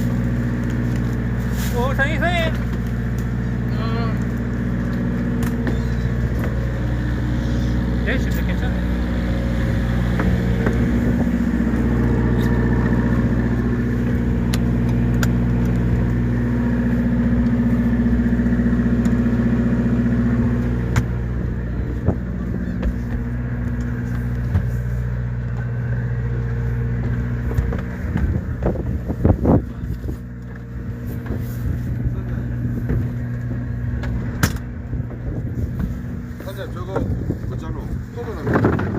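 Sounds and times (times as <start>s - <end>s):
boat engine humming: 0.0s - 38.9s.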